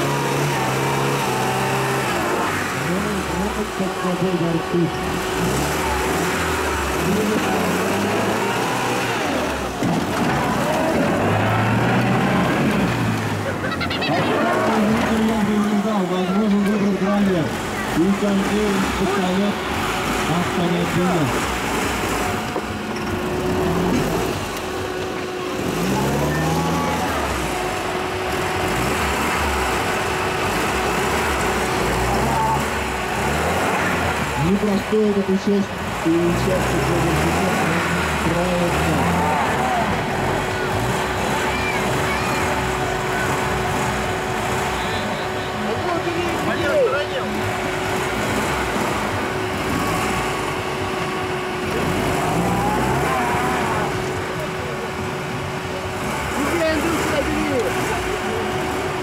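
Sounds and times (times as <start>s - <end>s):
vehicle engine running under load: 0.0s - 59.0s
wheel churning mud: 0.0s - 59.0s.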